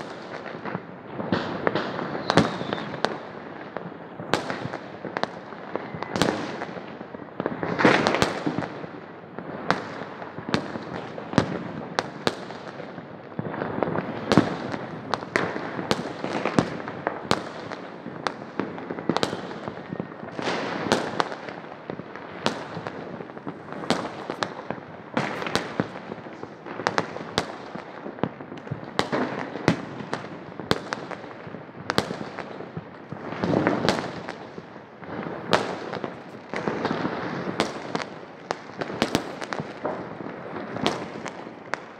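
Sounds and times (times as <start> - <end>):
distant firework bangs: 0.0 - 9.0, 9.6 - 41.9.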